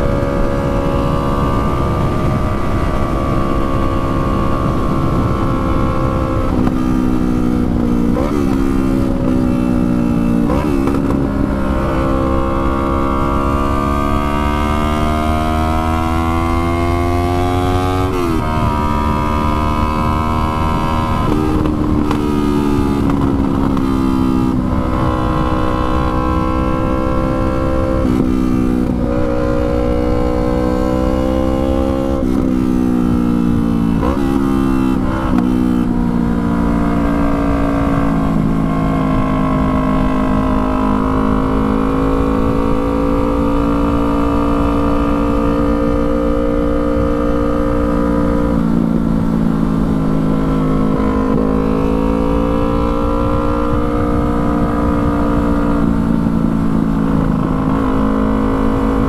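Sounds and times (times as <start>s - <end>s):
motorcycle engine revving: 0.0s - 59.0s
wind noise rumble: 0.0s - 59.0s.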